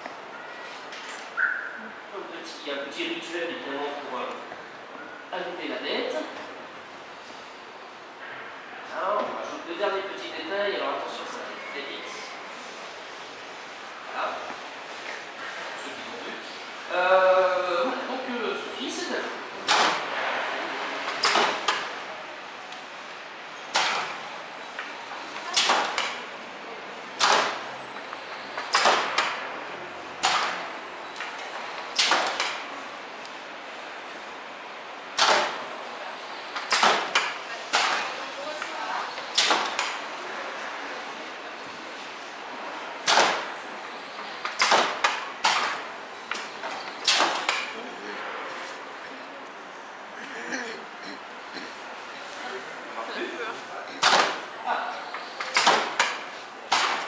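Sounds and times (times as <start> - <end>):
hall background noise: 0.0 - 57.0.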